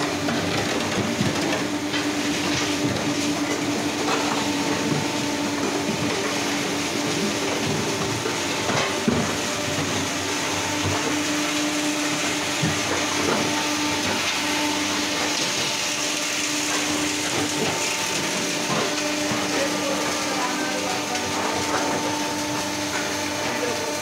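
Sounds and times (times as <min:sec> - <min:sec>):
block-making machine running: 0:00.0 - 0:24.0.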